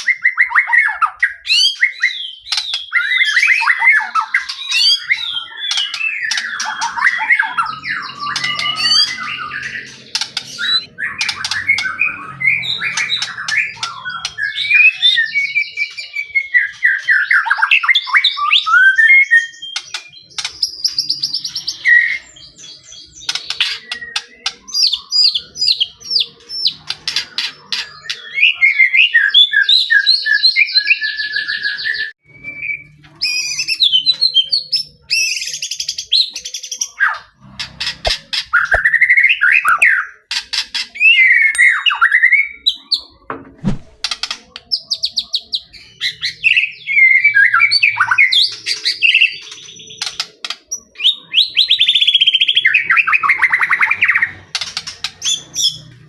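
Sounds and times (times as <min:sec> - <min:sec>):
bird singing whistles and trills: 0:00.0 - 0:37.4, 0:38.4 - 0:40.3, 0:41.0 - 0:43.8, 0:44.6 - 0:56.0.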